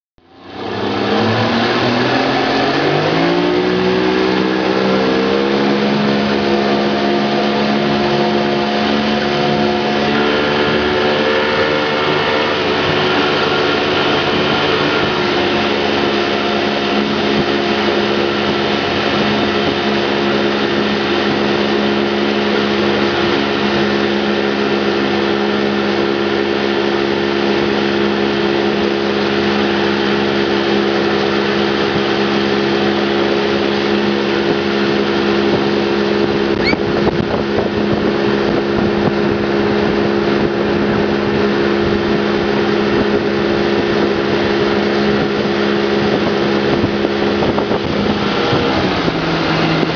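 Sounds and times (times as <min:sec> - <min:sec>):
motorboat engine: 0:00.2 - 0:49.9.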